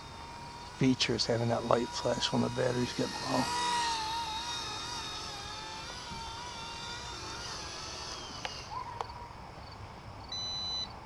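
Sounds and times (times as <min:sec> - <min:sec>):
electric model helicopter whining: 0:00.0 - 0:10.8.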